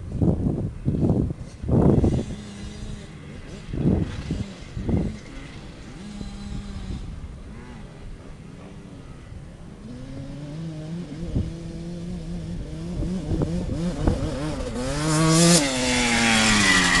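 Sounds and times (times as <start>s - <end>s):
motocross bike engines revving: 1.0s - 17.0s.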